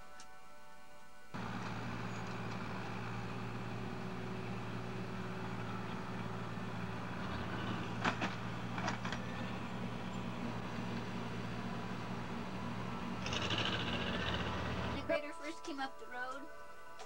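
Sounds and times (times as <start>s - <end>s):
construction machine engine running: 1.4s - 15.1s.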